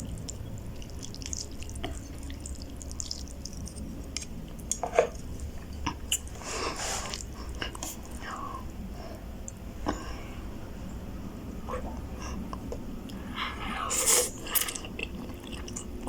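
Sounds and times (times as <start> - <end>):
person chewing noodles: 0.0 - 8.6, 11.7 - 16.0.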